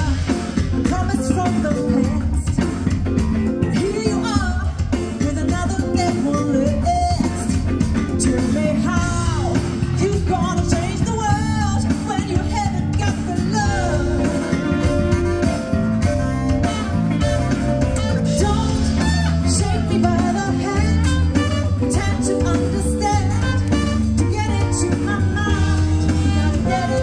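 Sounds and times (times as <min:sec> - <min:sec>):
bass line: 0:00.0 - 0:27.0
drums: 0:00.0 - 0:27.0
guitar: 0:00.0 - 0:27.0
person singing: 0:03.6 - 0:27.0.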